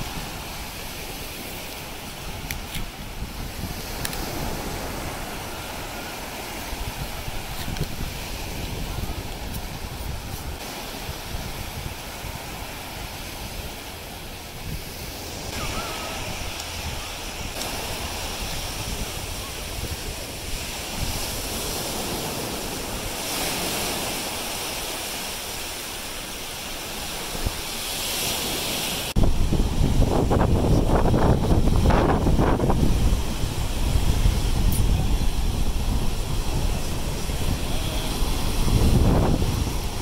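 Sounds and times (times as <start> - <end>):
wind buffeting microphone: 0.0 - 25.8, 26.7 - 40.0
surf washing onto beach: 0.0 - 40.0.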